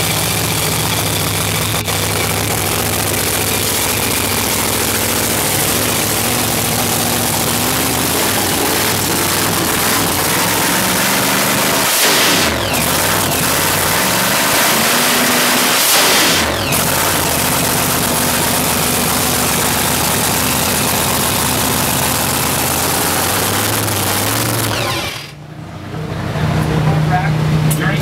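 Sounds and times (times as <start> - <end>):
loud car engine idling: 0.0 - 28.0.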